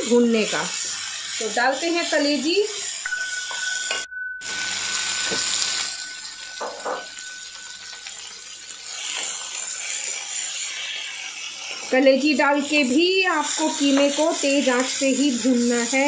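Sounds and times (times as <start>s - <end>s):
meat sizzling in a pan: 0.0s - 3.5s, 4.4s - 16.0s.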